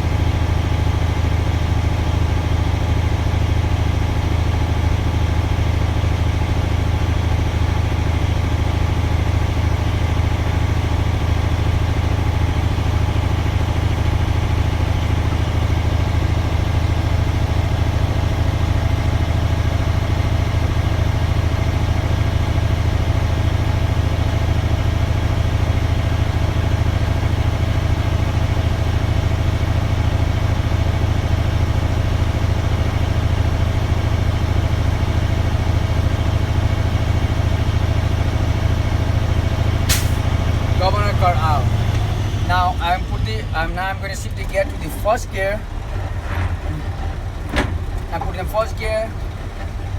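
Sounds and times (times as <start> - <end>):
diesel truck engine humming: 0.0 - 49.9.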